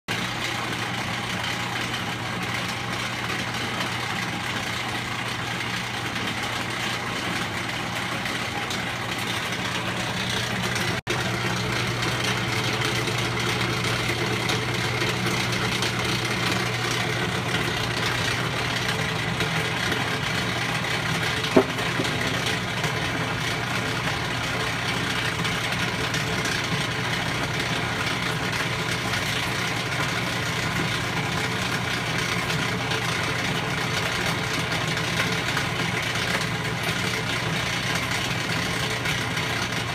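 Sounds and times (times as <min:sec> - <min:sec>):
washing machine droning: 0:00.1 - 0:39.9.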